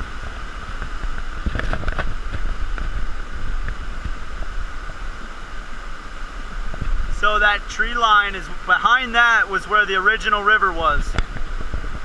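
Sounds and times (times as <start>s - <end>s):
floodwater rushing: 0.0s - 12.0s
wind rumble on microphone: 0.0s - 12.0s.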